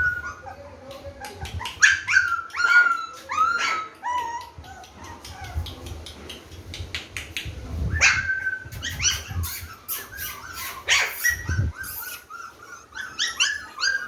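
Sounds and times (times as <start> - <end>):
puppy yipping: 0.0 - 5.8, 8.0 - 14.0
puppy whining: 0.0 - 5.9, 7.9 - 14.0.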